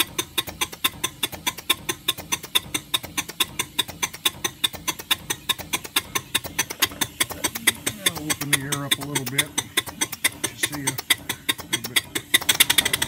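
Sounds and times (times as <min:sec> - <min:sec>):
steam cylinders exhaust chuffs: 0:00.0 - 0:13.0
valve gear clatter: 0:00.0 - 0:13.0.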